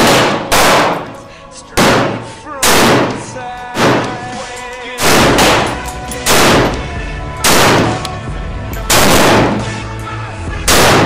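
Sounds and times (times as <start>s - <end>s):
rifle shots echoing: 0.0s - 8.1s, 8.8s - 9.8s, 10.7s - 11.0s.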